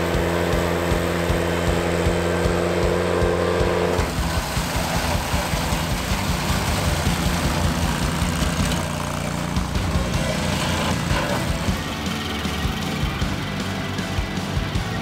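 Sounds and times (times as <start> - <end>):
mower cutting through undergrowth: 0.0 - 15.0
tractor engine running under load: 0.0 - 15.0.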